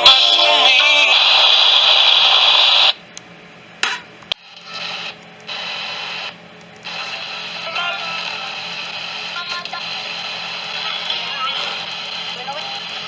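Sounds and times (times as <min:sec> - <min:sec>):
radio static hiss: 0:00.0 - 0:03.0, 0:04.4 - 0:13.0.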